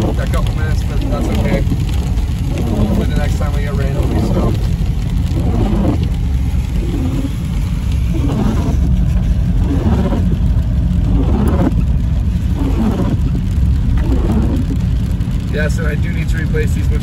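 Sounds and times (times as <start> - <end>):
car road and engine rumble: 0.0 - 17.0
windshield wipers sweeping: 0.0 - 17.0.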